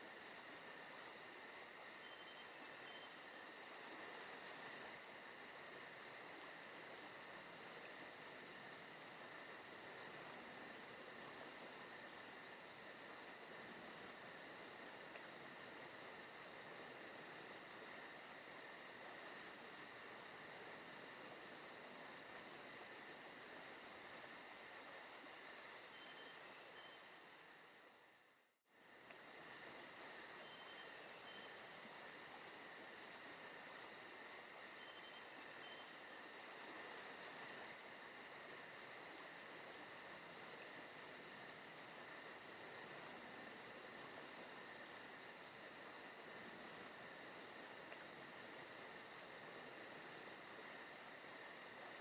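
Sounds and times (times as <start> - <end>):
crickets and insects chirping: 0.0 - 52.0.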